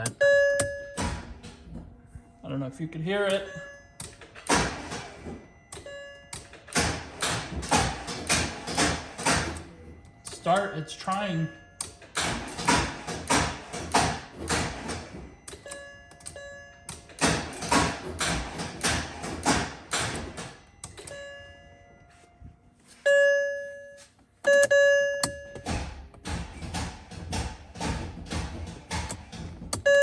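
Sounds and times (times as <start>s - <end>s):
dashboard warning chime: 0.0s - 18.0s, 18.9s - 26.7s, 29.8s - 30.0s
car engine cranking: 0.0s - 21.9s, 24.5s - 30.0s.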